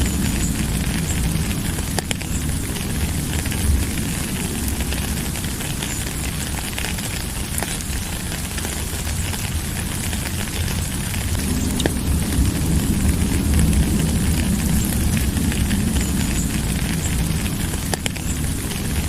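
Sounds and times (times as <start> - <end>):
low rumble: 0.0 - 19.0
rain hissing: 0.0 - 19.0
raindrops ticking: 0.0 - 19.0.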